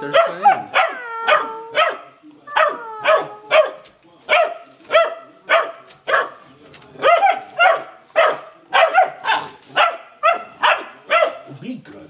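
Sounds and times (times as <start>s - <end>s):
puppies barking: 0.0s - 11.5s.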